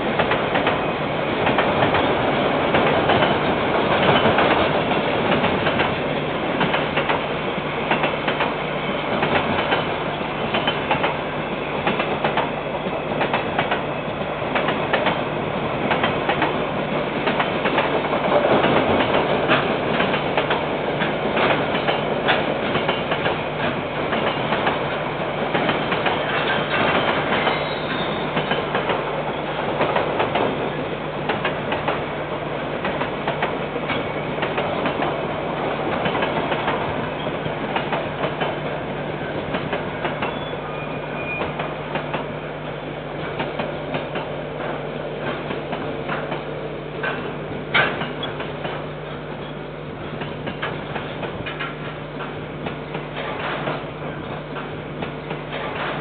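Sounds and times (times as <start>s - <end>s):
freight train wheels clacking: 0.0s - 56.0s
train rolling noise: 0.0s - 56.0s.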